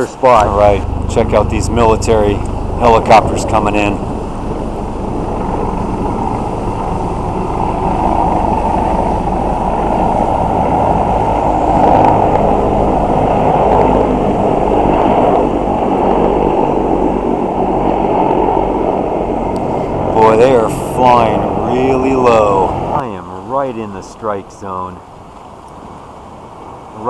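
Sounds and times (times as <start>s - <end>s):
helicopters passing overhead: 0.0s - 27.0s.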